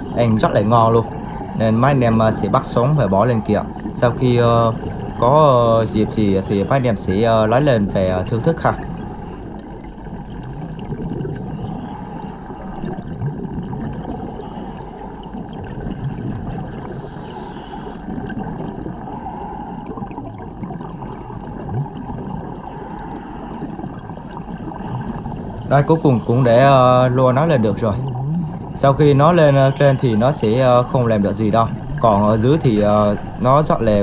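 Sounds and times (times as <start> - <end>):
muffled underwater water wash: 0.0 - 34.0.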